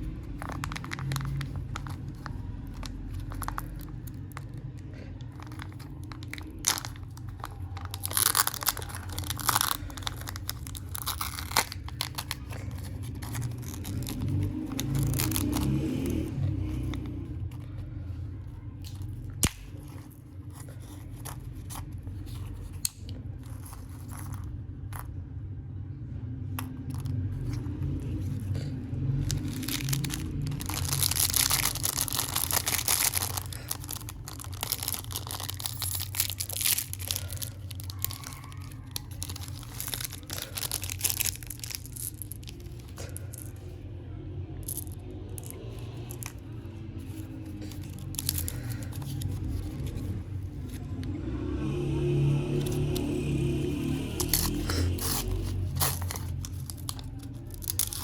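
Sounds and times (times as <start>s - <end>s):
wrapper tearing and crinkling: 0.0s - 17.8s, 18.8s - 25.2s, 26.8s - 43.7s, 44.6s - 51.0s, 52.6s - 58.0s
low rumble: 0.0s - 58.0s.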